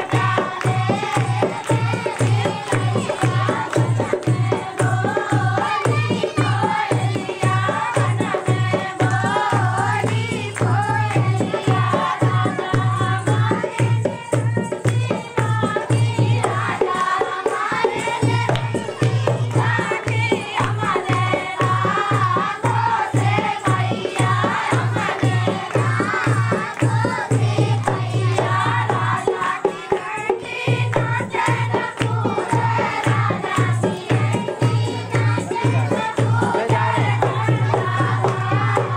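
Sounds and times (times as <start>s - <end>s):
driving drum beat: 0.0s - 38.9s.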